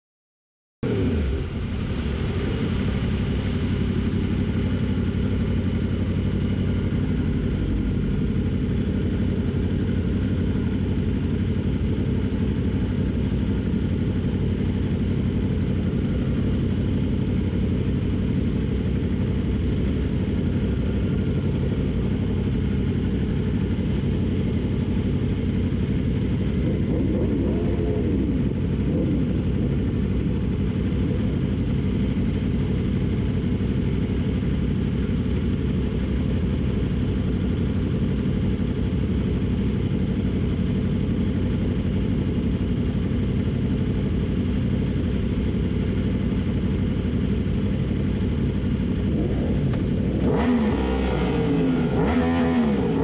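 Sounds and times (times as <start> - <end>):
motorcycle engine idling: 0.8 - 53.0.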